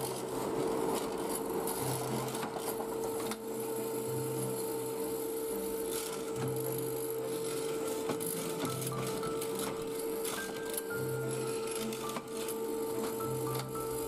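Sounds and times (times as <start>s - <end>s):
woodworking machine motor hum: 0.0s - 14.0s.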